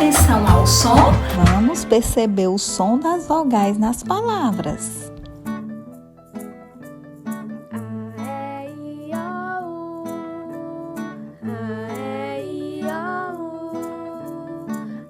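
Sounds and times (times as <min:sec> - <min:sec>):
guitar-backed children's tune: 0:00.0 - 0:15.0.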